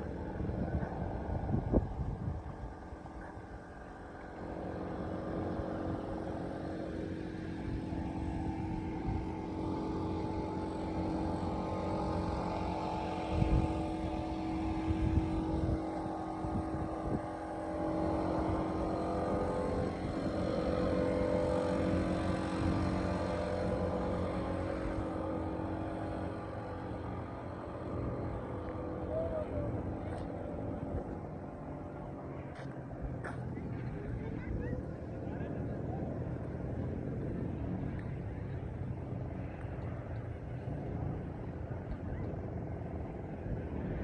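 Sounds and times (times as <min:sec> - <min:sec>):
engine running steadily: 0:00.0 - 0:44.0.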